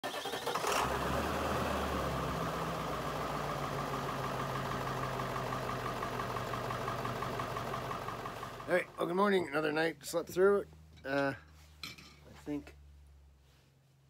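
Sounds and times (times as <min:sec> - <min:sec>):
engine idling: 0:00.0 - 0:11.6.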